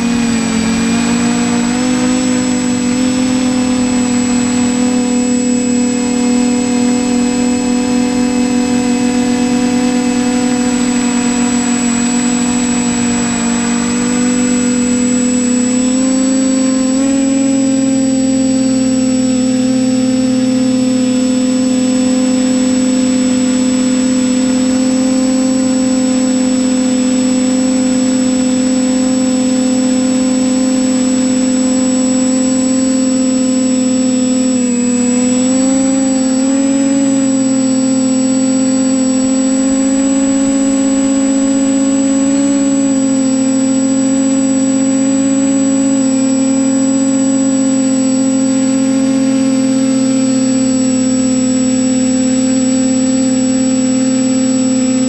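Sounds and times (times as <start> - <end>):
drone propellers humming: 0.0 - 55.0.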